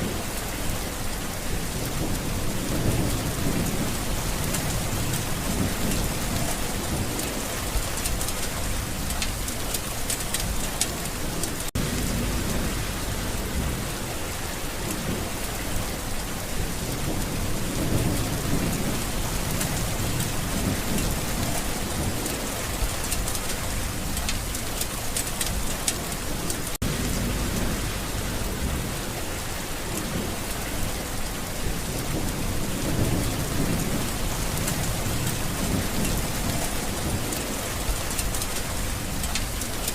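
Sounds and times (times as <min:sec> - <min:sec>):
steady rain: 0:00.0 - 0:39.9
distant thunder rumbles: 0:01.6 - 0:09.7, 0:11.2 - 0:24.6, 0:26.3 - 0:39.6.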